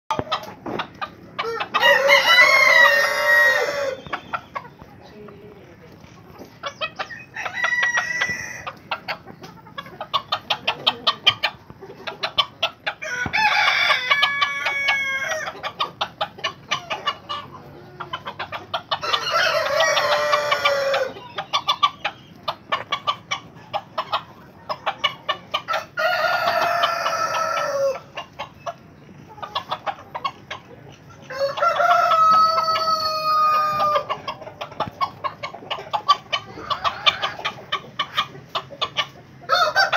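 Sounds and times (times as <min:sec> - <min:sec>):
roosters crowing: 0:00.1 - 0:04.7, 0:06.4 - 0:39.9
beaks pecking on concrete floor: 0:00.1 - 0:39.9.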